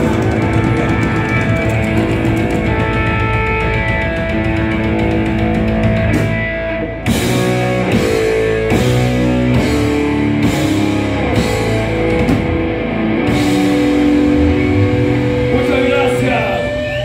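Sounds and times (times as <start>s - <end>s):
distorted electric guitar chords: 0.0s - 17.0s
drum hits: 0.0s - 17.0s.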